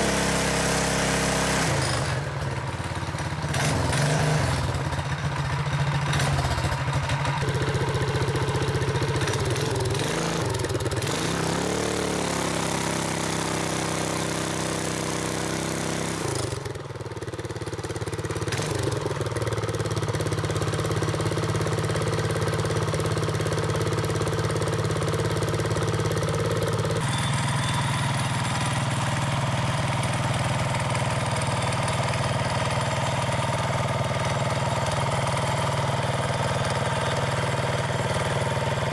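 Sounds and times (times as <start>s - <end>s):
small motorcycle engine idling: 0.0s - 38.9s.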